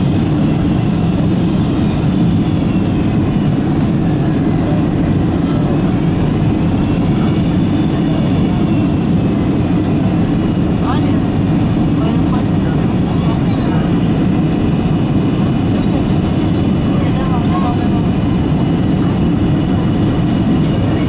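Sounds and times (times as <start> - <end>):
high engine whine: 0.0 - 21.0
jet engine cabin rumble: 0.0 - 21.0.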